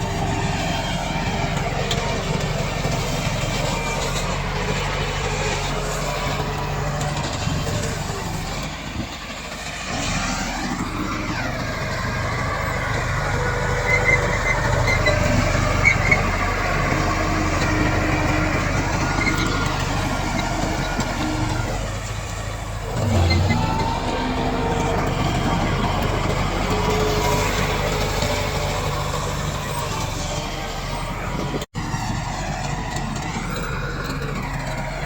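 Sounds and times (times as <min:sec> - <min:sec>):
bulldozer diesel engine revving: 0:00.0 - 0:35.0.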